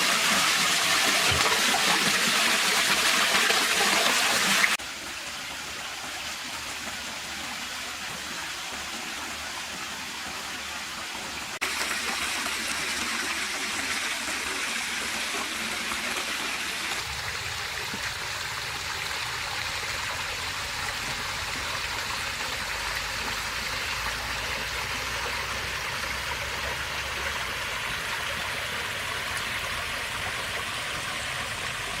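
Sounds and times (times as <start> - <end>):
water pouring into a pool: 0.0 - 32.0.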